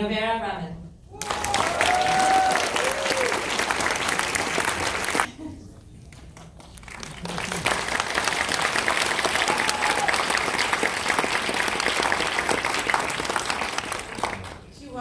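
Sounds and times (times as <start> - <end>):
audience applauding: 1.2 - 5.3, 6.1 - 14.7.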